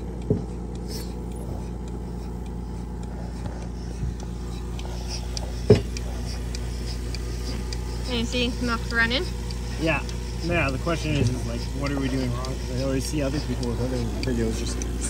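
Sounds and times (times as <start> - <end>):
vacuum pump humming: 0.0 - 15.0.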